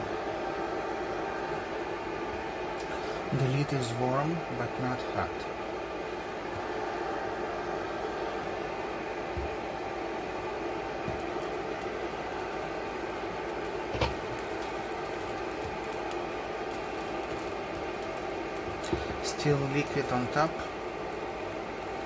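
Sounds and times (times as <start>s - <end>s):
cooling fan whirring hum: 0.0s - 22.0s.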